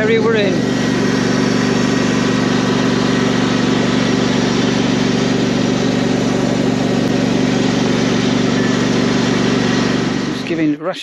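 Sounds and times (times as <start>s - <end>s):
ride-on mower engine running: 0.0s - 10.8s.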